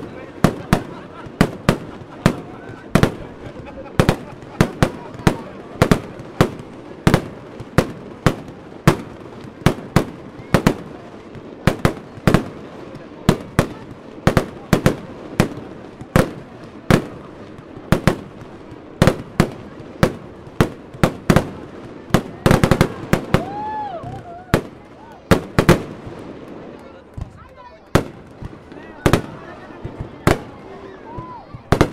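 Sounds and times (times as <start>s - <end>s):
fireworks bursting with bangs: 0.0s - 31.9s.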